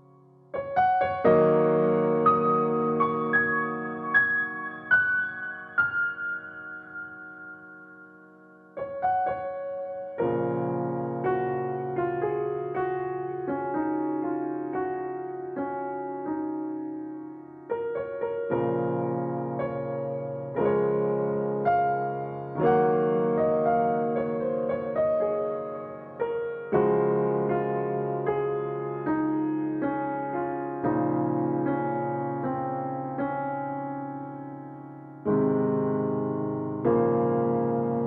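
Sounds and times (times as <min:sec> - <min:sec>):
piano chords ringing: 0:00.0 - 0:38.0.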